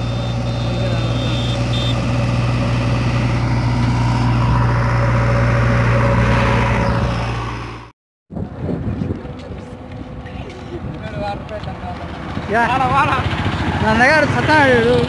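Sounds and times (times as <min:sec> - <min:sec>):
vehicle engine running: 0:00.0 - 0:07.9, 0:08.5 - 0:15.0.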